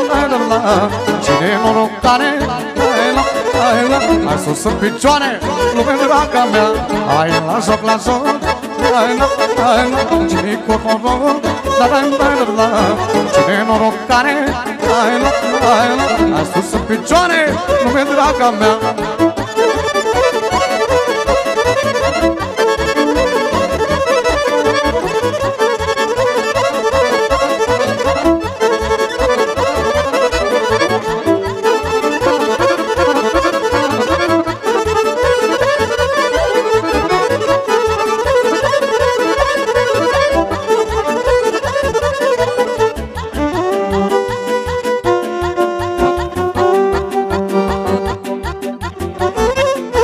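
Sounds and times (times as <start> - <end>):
accordion fast melody: 0.0 - 50.0
keyboard beat: 0.0 - 50.0.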